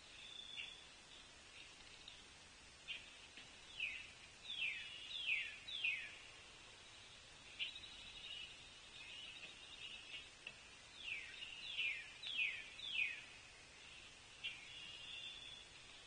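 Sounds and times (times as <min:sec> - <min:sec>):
outdoor background hiss: 0:00.0 - 0:16.0
songbirds singing: 0:00.0 - 0:16.0.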